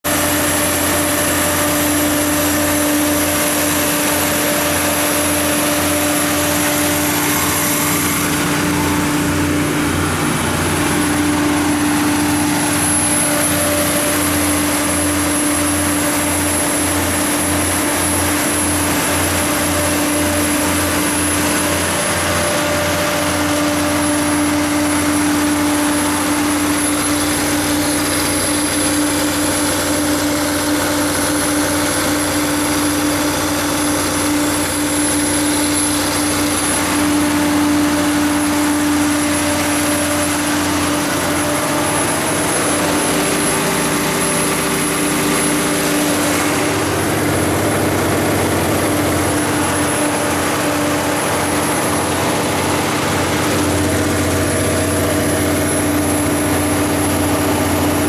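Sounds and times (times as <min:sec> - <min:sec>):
diesel generator engine drone: 0:00.0 - 0:58.0.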